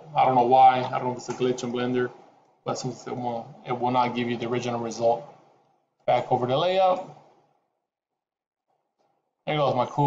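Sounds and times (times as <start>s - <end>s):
man speaking: 0.0s - 7.4s, 9.4s - 10.0s.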